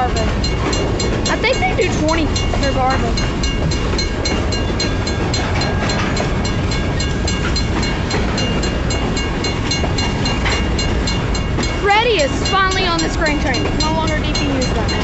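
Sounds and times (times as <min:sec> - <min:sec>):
freight train rumbling past: 0:00.0 - 0:15.0
railroad crossing bell ringing: 0:00.0 - 0:15.0.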